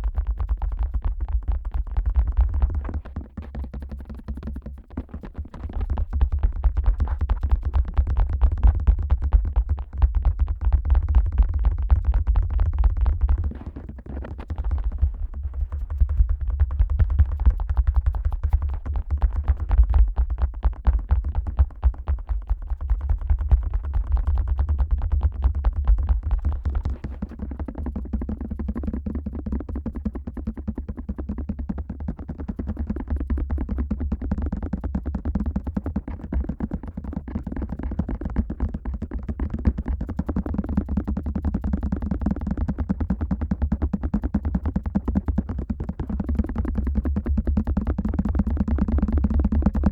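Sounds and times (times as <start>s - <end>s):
fingertips tapping on microphone: 0.0s - 49.9s.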